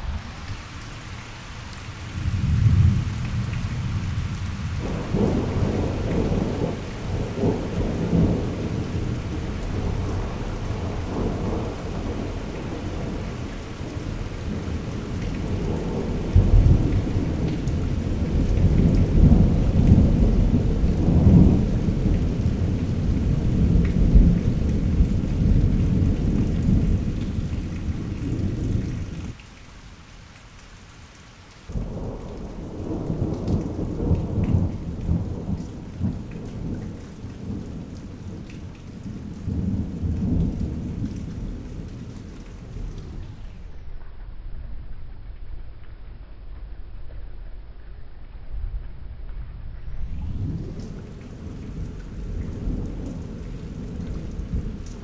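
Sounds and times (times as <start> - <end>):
thunder rumbling: 0.0 - 29.4, 31.7 - 55.0
rain falling: 0.0 - 55.0.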